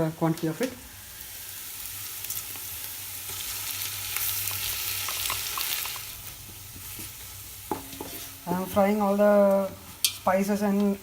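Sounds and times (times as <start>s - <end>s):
spices sizzling in a pan: 0.0s - 11.0s.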